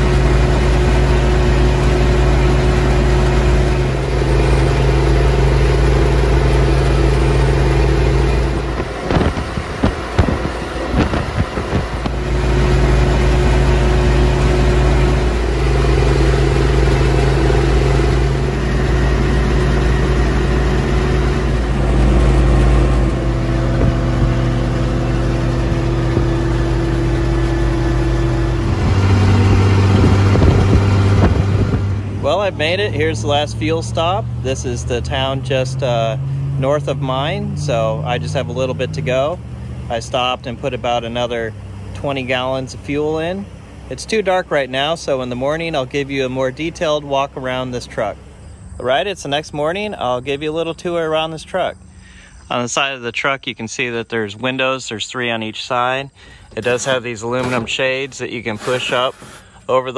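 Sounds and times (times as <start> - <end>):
diesel truck engine droning: 0.0 - 59.9.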